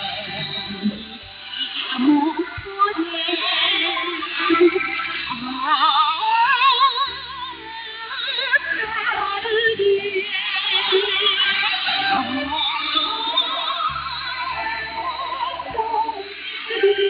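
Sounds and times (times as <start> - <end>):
instrumental accompaniment: 0.0 - 17.0
woman singing with vibrato: 0.0 - 17.0.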